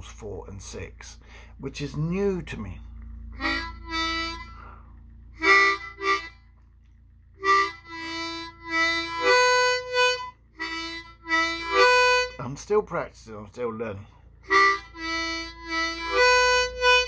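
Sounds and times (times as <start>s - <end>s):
harmonica phrases: 0.0s - 6.6s, 7.4s - 17.0s.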